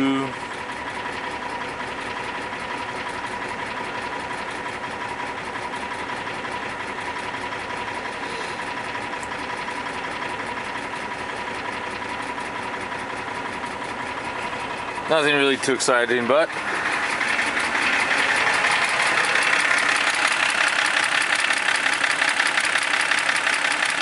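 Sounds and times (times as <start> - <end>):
car engine idling with knocking: 0.0 - 24.0.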